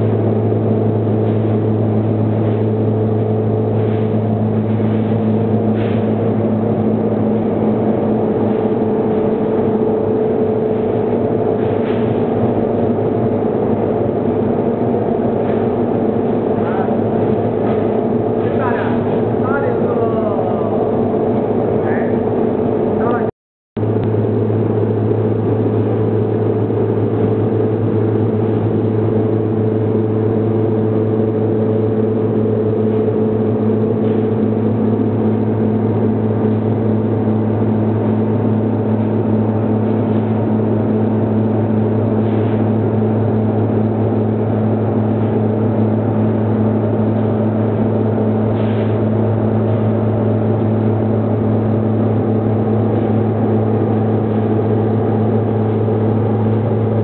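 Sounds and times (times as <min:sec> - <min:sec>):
wire drawing machine humming: 0:00.0 - 0:57.0.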